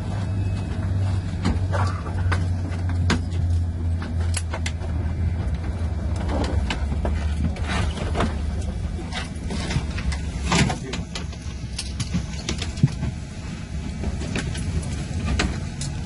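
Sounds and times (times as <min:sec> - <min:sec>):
low aircraft cabin hum: 0:00.0 - 0:16.0.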